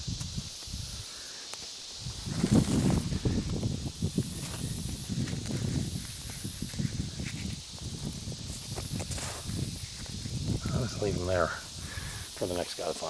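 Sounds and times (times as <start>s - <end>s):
hand scraping dry dirt: 0.0s - 13.0s
steady hiss: 0.0s - 13.0s.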